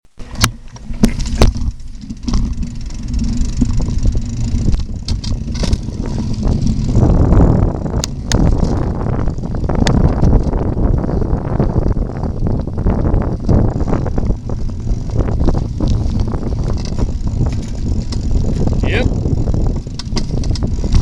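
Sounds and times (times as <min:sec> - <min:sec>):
bicycle clicks and rattles: 0:00.2 - 0:21.0
wind rumble on microphone: 0:00.2 - 0:21.0.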